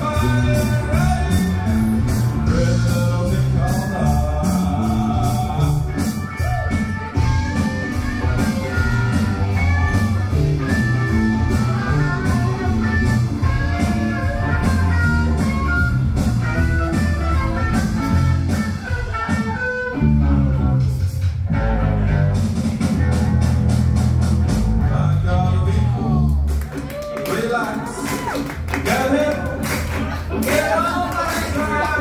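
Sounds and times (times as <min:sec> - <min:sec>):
live band playing guitar music: 0:00.0 - 0:32.0.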